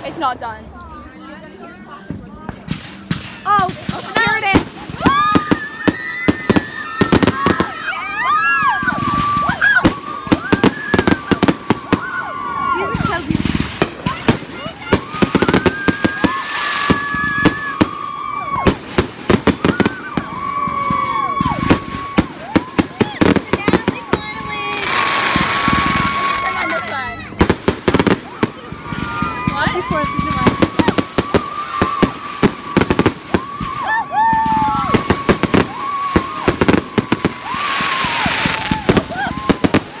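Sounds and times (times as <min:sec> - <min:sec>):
fireworks bangs and crackles: 0:00.0 - 0:40.0
fireworks whistling: 0:02.7 - 0:12.2, 0:12.8 - 0:40.0.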